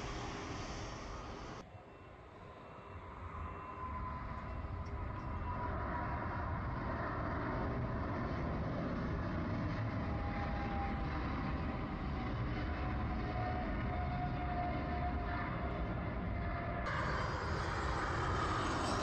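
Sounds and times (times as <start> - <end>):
jet engine whining tone: 0.0 - 19.0
jet engines deep rumble: 0.0 - 19.0.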